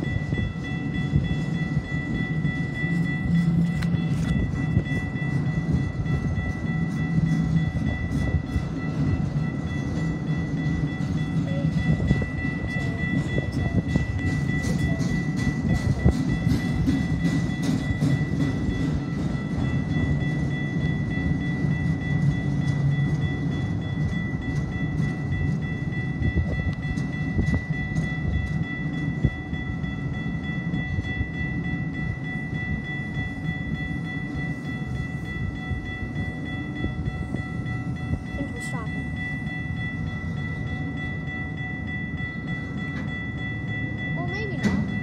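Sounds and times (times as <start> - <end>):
railcar clicks and clanks: 0.0 - 45.0
train wheels rumbling on rail: 0.0 - 45.0.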